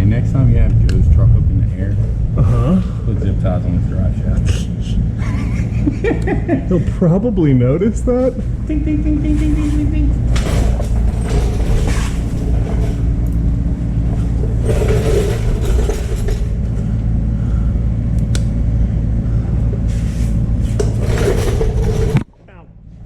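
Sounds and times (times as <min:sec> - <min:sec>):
machinery rumbling: 0:00.0 - 0:23.0.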